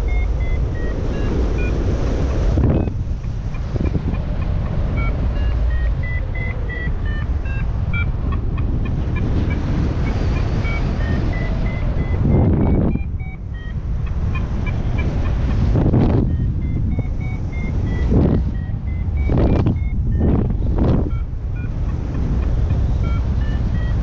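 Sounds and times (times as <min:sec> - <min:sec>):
variometer beeping: 0:00.0 - 0:24.0
wind on microphone: 0:00.0 - 0:24.0.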